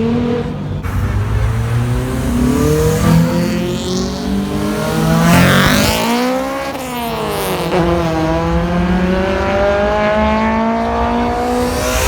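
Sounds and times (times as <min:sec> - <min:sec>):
car engine accelerating: 0:00.0 - 0:12.0
car passing by: 0:00.8 - 0:12.0.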